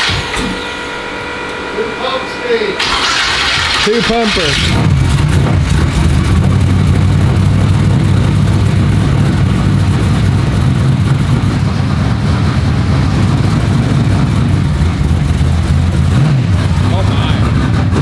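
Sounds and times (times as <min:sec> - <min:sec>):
race car engine idling loudly: 0:00.0 - 0:18.0.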